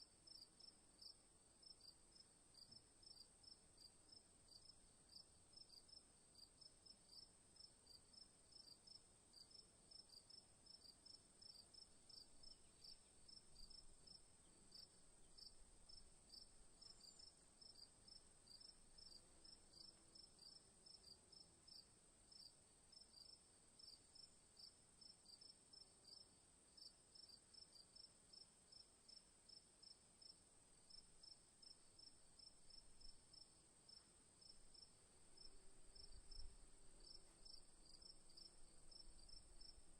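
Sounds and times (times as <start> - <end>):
crickets chirping: 7.1 - 39.9.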